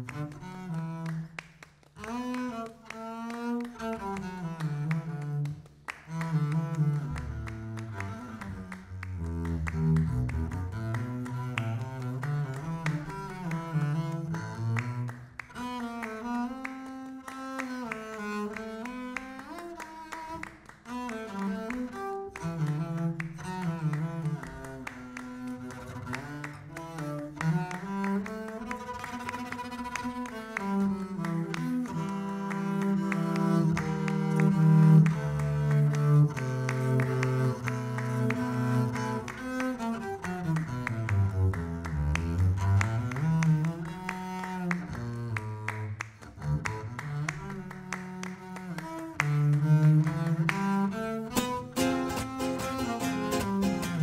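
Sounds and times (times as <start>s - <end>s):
bowed double bass melody: 0.0s - 54.0s.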